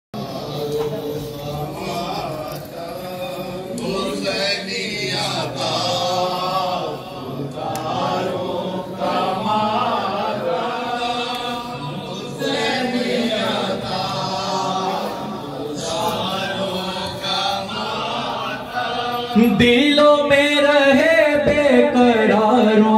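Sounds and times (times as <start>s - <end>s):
men chanting a lament in chorus: 0.2s - 22.9s.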